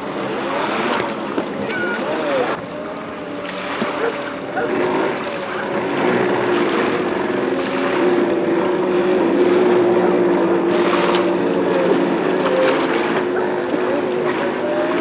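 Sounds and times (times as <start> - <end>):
jet ski engine droning: 0.0 - 15.0.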